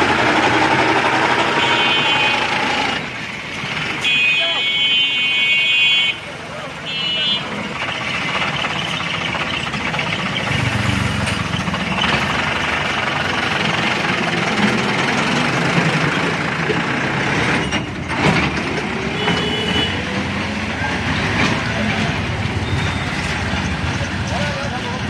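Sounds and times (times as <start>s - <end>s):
diesel tractor engine running: 0.0s - 4.1s, 7.5s - 25.0s.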